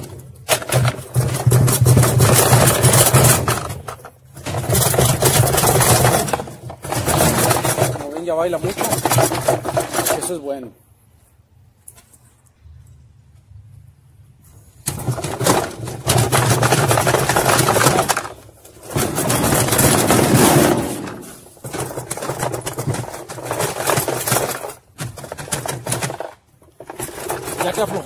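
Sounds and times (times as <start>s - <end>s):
plastic tub rattling and scraping: 0.0s - 10.6s, 14.8s - 28.0s.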